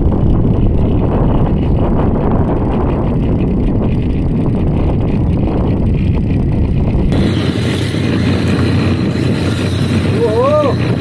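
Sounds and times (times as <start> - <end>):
boat motor rumbling: 0.0 - 11.0
wind buffeting microphone: 0.0 - 11.0.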